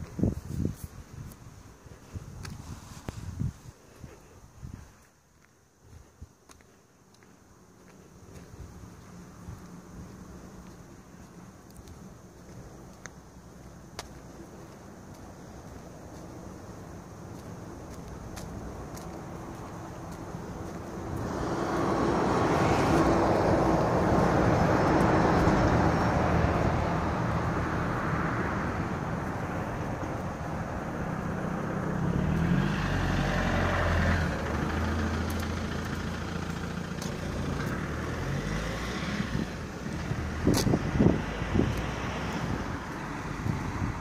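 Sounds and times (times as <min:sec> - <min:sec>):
tyre noise on road: 0:00.0 - 0:44.0
car engine hum: 0:05.7 - 0:44.0.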